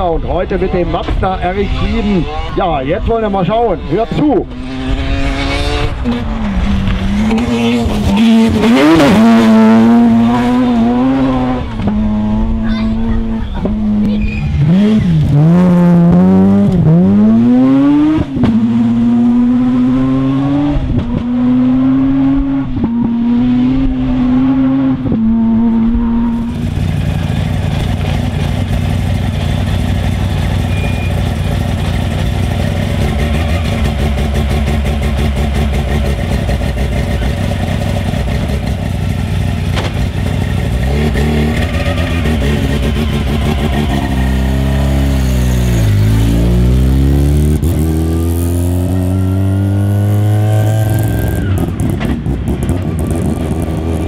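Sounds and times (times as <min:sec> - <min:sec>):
rotary engine revving high: 0:00.6 - 0:54.0.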